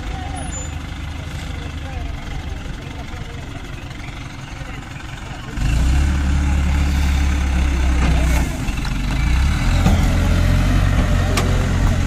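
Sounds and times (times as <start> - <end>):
diesel crane engine running: 0.0 - 12.0.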